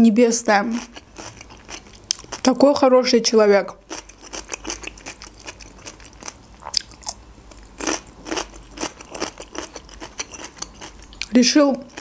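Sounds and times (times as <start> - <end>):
cucumber crunching while chewed: 0.8 - 2.5, 3.8 - 12.0.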